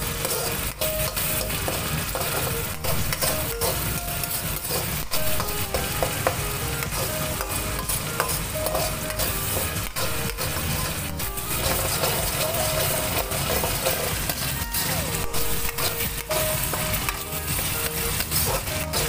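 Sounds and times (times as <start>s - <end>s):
paste sizzling in a pan: 0.0s - 19.0s
spatula scraping a pan: 0.0s - 19.0s.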